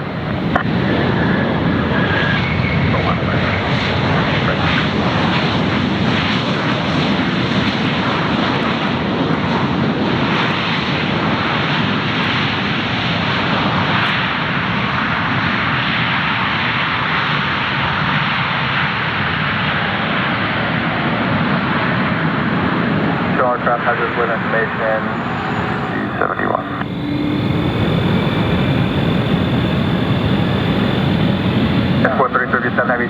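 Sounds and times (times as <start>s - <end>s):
jet airliner engines roaring: 0.0s - 33.0s.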